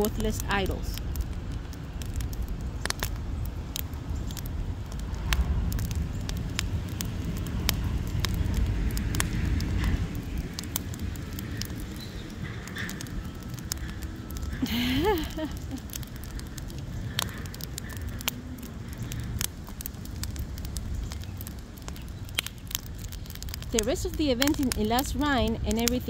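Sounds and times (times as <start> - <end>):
fire crackling: 0.0 - 26.0
low rumble: 0.0 - 26.0.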